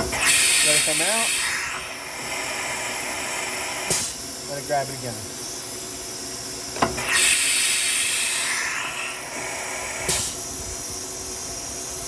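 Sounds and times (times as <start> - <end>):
compressed air hissing: 0.0 - 11.9.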